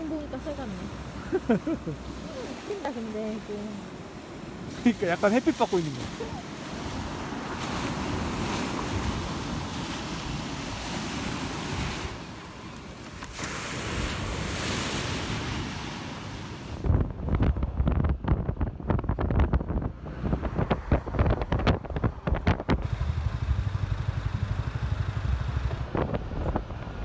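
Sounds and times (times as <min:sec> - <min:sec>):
wind blowing across microphone: 0:00.0 - 0:27.0.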